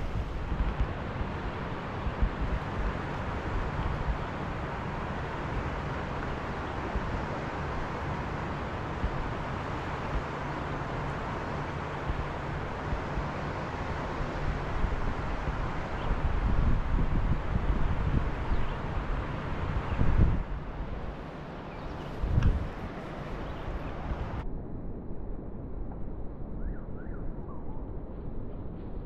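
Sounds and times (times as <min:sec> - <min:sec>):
steady rushing hiss: 0:00.0 - 0:24.4
wind buffeting microphone: 0:00.0 - 0:24.4.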